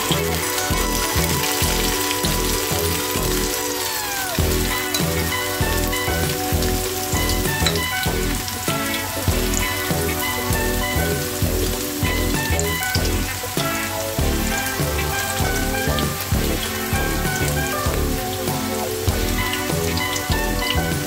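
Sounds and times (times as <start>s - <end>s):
background music with beat: 0.0s - 21.0s
food frying in hot oil: 0.0s - 21.0s.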